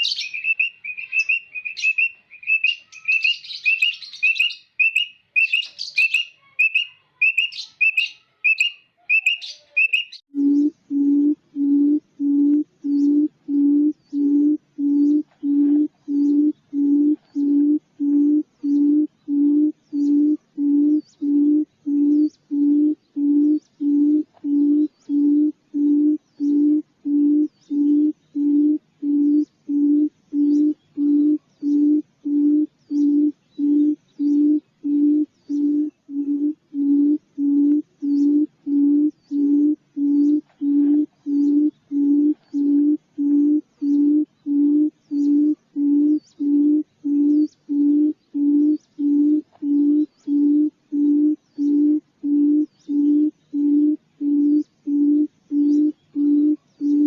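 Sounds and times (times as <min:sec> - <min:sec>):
quail hooting call: 0:00.0 - 0:57.0.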